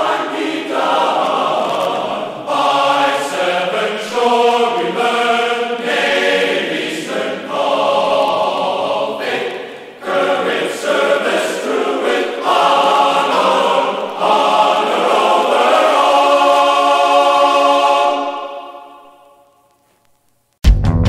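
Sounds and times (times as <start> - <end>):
choir singing in harmony: 0.0 - 19.7.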